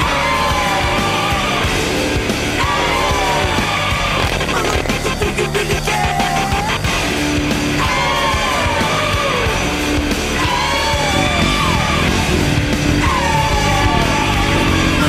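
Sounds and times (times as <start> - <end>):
hard rock music: 0.0 - 15.0
yelled vocals: 0.0 - 15.0.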